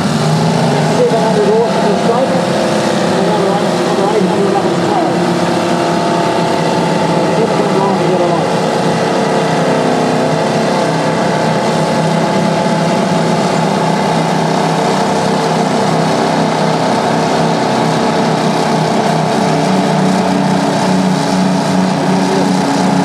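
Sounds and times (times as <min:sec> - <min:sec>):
heavy diesel engines under load: 0:00.0 - 0:23.0.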